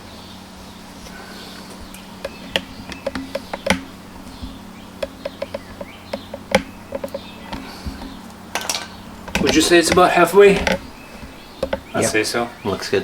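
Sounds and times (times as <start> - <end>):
faint steady hum: 0.0 - 13.0
metal tools clicking and tapping: 1.0 - 12.1.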